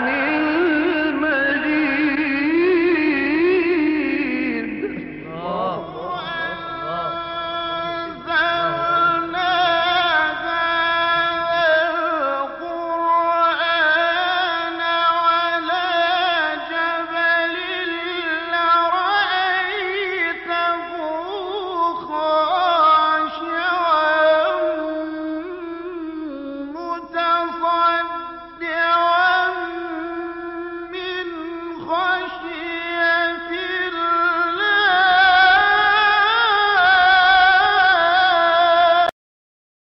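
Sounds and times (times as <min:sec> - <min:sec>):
melodic vocal chanting: 0:00.0 - 0:39.1.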